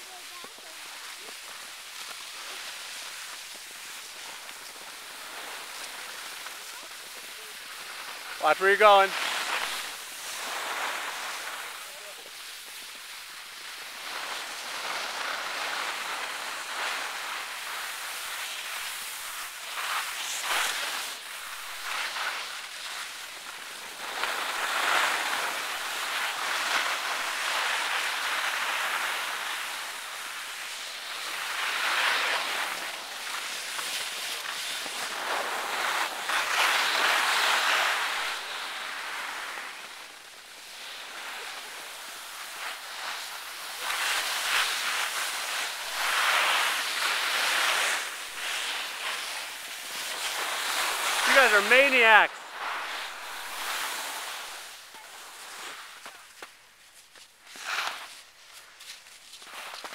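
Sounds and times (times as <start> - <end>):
skis scraping over snow: 0.0 - 59.9.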